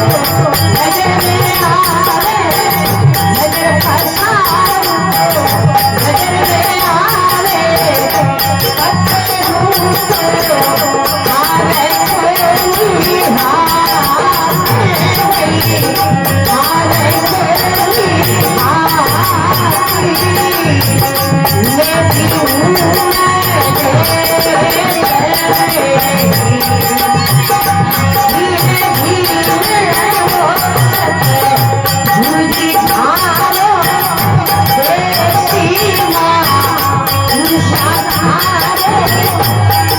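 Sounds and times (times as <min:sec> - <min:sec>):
devotional folk singing: 0:00.0 - 0:39.9
jingling hand percussion: 0:00.0 - 0:39.9.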